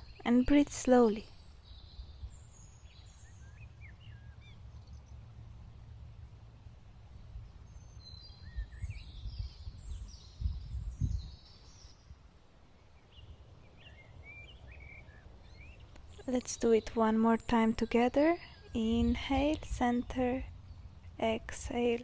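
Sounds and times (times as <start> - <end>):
low rumble of outdoor noise: 0.0 - 22.0
wild birds chirping: 0.0 - 22.0.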